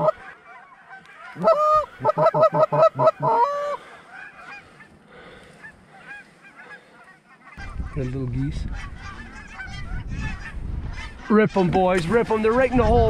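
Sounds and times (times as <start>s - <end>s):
goose honking and clucking: 0.0s - 4.9s, 5.6s - 11.8s
distant geese honking: 0.0s - 12.8s.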